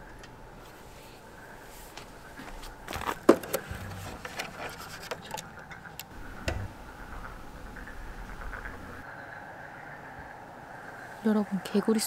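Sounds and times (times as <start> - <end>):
chorus of frogs: 0.8 - 12.0.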